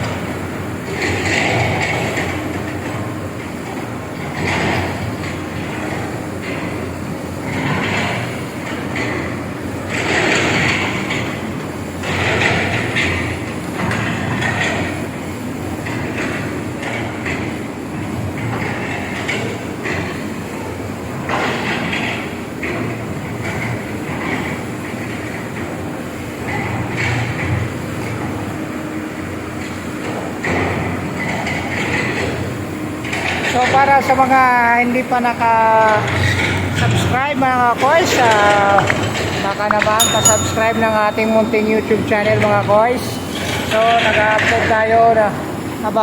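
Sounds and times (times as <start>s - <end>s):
excavator diesel engines running: 0.0s - 46.0s.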